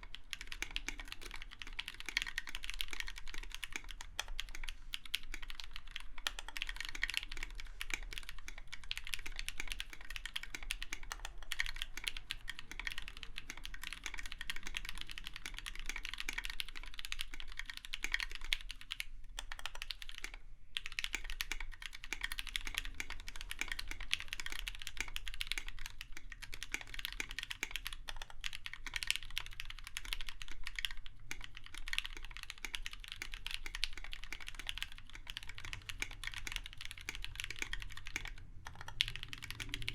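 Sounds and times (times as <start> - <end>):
mechanical keyboard keys clacking: 0.0 - 39.9.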